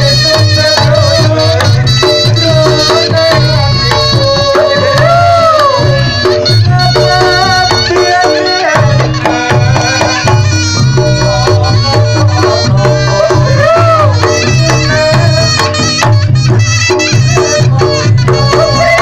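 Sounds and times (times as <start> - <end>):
repeating drum beat: 0.0 - 19.0
wavering shawm-like melody: 0.0 - 19.0.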